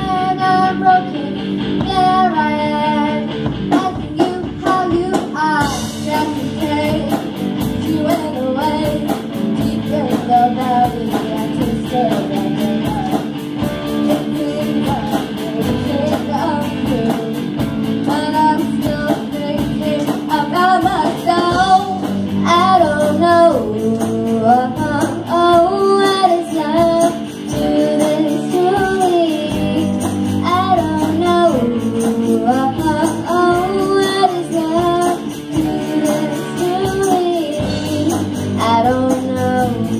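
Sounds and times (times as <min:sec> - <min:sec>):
girls singing: 0:00.0 - 0:07.2, 0:07.8 - 0:39.9
drums: 0:00.0 - 0:39.9
electric guitars: 0:00.0 - 0:39.9.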